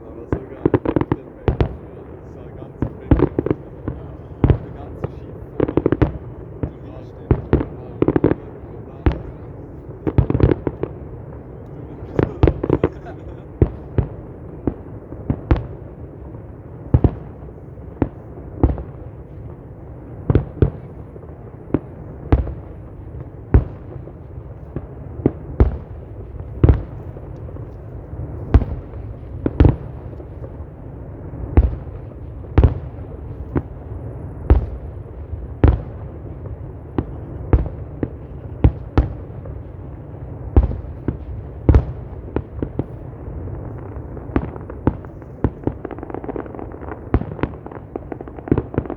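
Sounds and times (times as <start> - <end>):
firework bangs: 0.0 - 48.9.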